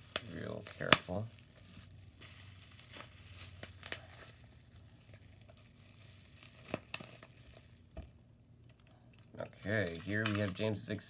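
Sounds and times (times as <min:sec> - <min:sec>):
bubble wrap crinkling: 0:00.0 - 0:08.2, 0:08.8 - 0:11.0.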